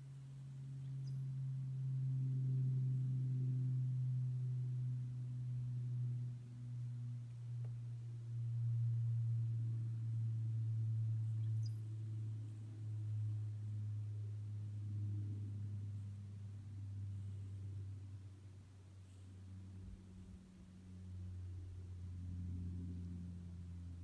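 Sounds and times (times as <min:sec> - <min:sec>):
propeller plane droning overhead: 0:00.0 - 0:24.0.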